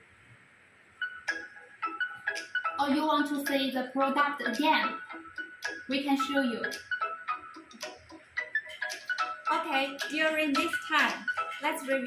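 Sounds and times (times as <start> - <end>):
music with ticking notes: 1.0 - 12.0.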